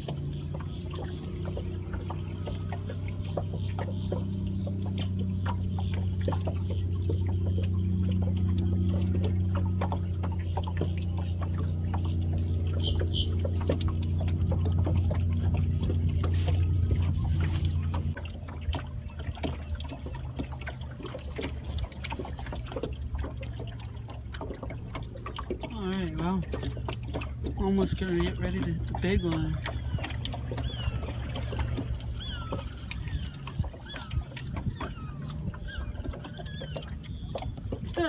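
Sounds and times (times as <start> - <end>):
boat motor running: 0.0 - 38.0
water lapping: 0.0 - 38.0.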